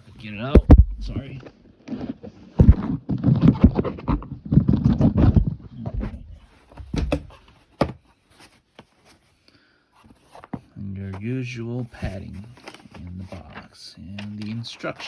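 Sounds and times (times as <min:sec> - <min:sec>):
packaging rustling and scraping: 0:01.0 - 0:09.4, 0:10.0 - 0:15.0.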